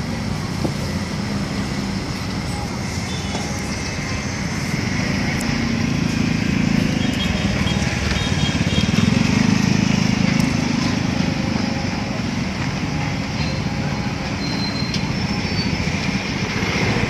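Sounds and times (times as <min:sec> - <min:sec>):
construction machinery engine running: 0:00.0 - 0:17.0.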